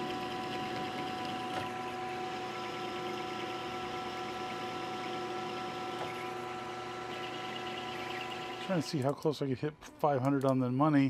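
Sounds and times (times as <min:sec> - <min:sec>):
metal lathe whining: 0:00.0 - 0:09.4.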